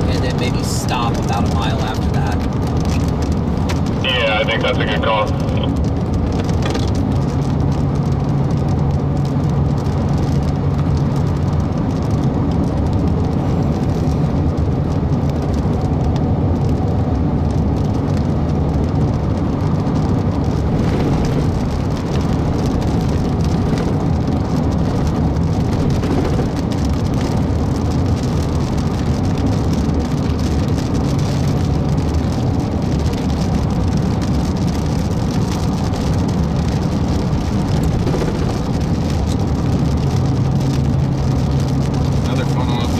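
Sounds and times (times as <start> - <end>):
car road and engine noise: 0.0 - 42.9
rain hitting car: 0.0 - 42.9.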